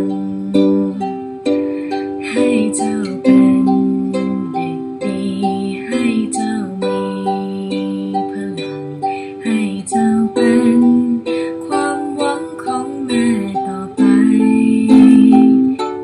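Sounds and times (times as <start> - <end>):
ukulele strumming chords: 0.0 - 16.0.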